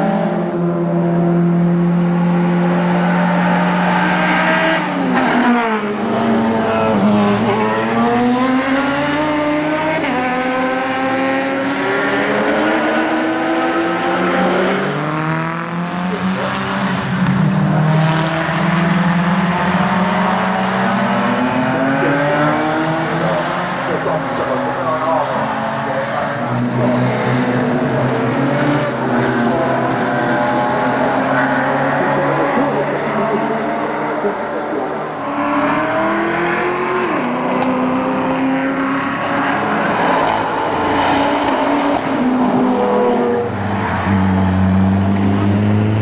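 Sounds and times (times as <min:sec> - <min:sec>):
engines revving through gears: 0:00.0 - 0:34.4, 0:35.2 - 0:46.0
race cars passing at full throttle: 0:00.0 - 0:46.0.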